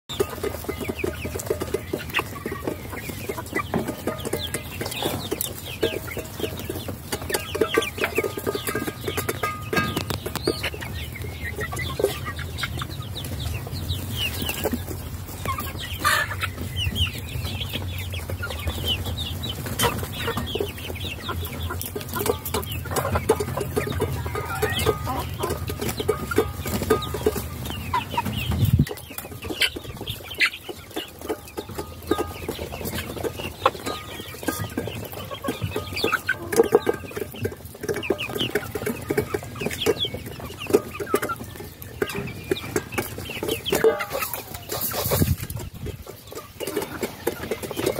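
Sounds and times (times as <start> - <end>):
hens clucking: 0.1 - 47.9.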